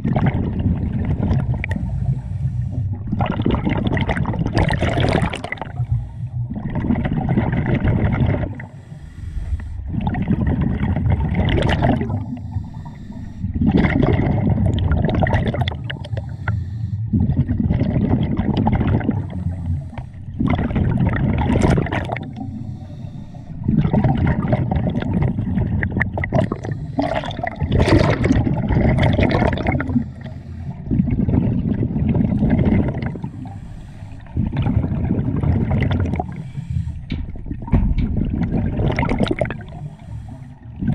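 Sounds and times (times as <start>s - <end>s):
diver exhaling bubbles underwater: 0.0s - 2.2s, 2.9s - 8.8s, 9.8s - 12.5s, 13.5s - 16.2s, 17.1s - 22.7s, 23.6s - 40.1s, 40.7s - 40.9s.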